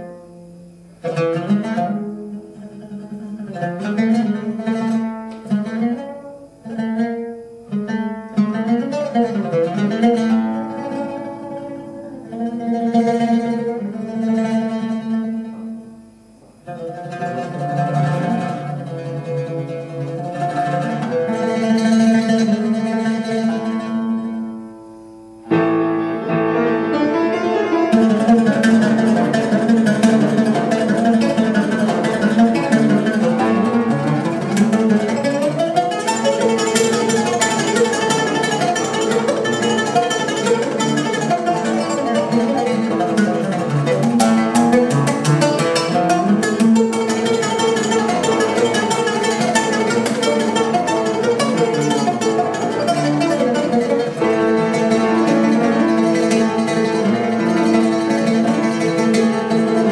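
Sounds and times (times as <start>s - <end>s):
oud playing: 0.0s - 59.9s.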